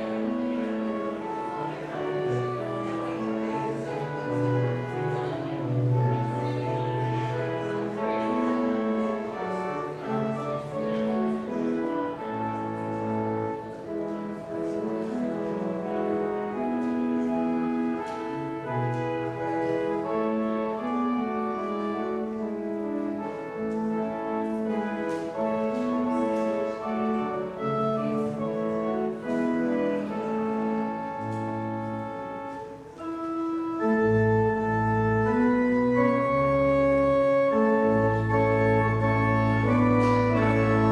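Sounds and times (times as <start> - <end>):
organ playing chords: 0.0 - 40.9.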